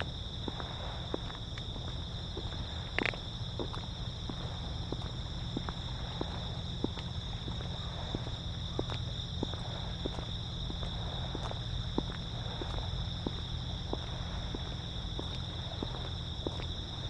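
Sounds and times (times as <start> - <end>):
insects chirring: 0.0 - 17.0
wind rumble on microphone: 0.0 - 17.0.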